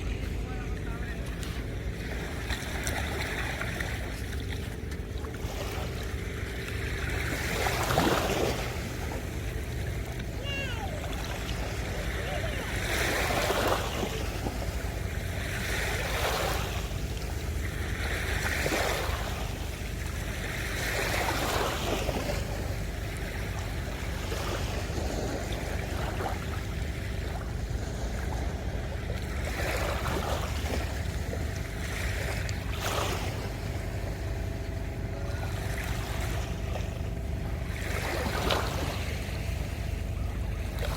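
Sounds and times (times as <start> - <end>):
waves washing on sandy beach: 0.0 - 40.9.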